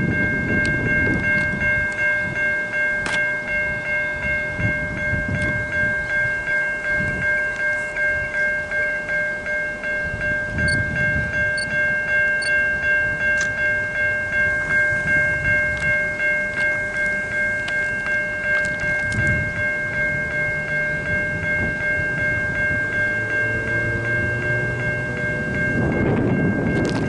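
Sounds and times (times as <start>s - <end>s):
diesel locomotive rumble: 0.0s - 27.0s
level crossing warning bell ringing: 0.0s - 27.0s.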